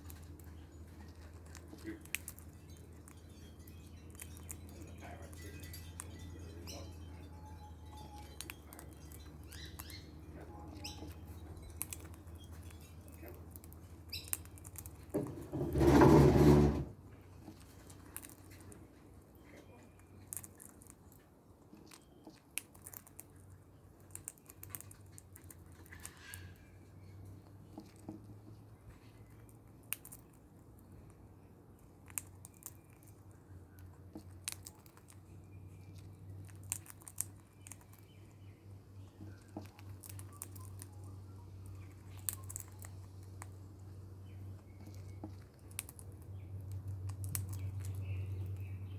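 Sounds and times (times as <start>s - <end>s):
parrot beak crunching food: 0.0s - 48.9s.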